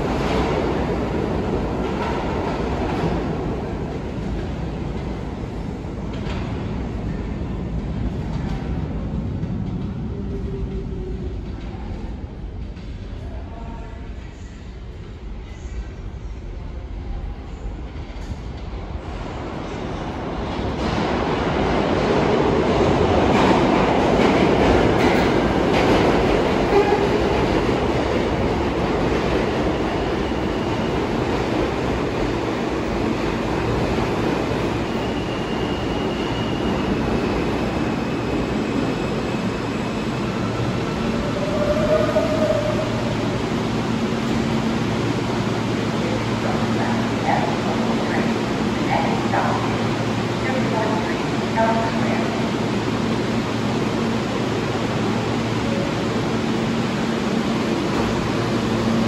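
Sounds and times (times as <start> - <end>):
subway train running: 0.0 - 59.0.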